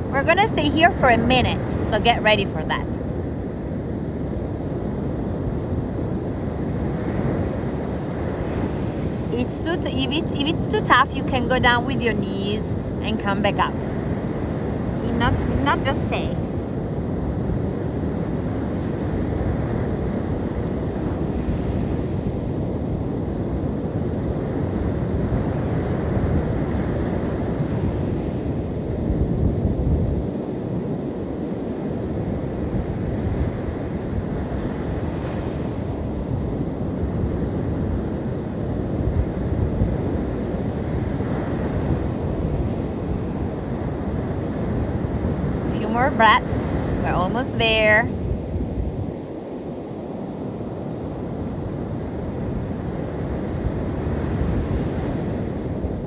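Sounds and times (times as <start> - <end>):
wind on microphone: 0.0 - 56.0
surf breaking on beach: 4.7 - 56.0.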